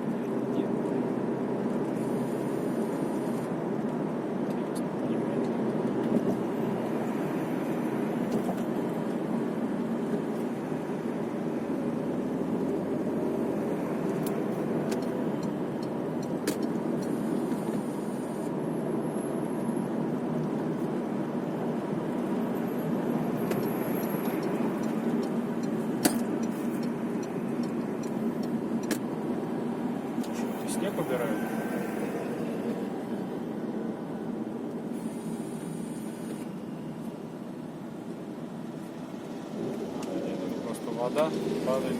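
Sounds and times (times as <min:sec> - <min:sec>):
car road and engine noise: 0:00.0 - 0:41.9.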